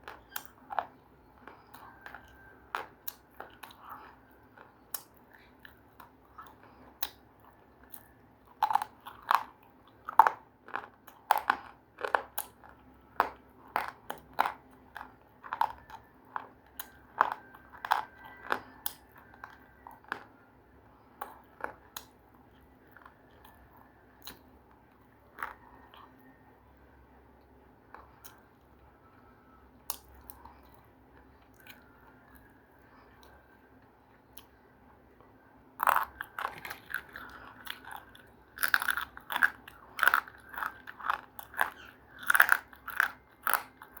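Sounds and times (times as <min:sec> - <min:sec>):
faint steady hum: 0:00.0 - 0:44.0
person chewing crunchy food: 0:00.0 - 0:44.0.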